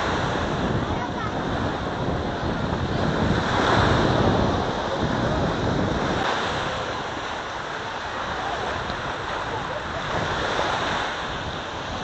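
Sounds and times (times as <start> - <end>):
small waves breaking on shore: 0.0 - 12.0
wind buffeting microphone: 0.0 - 12.0.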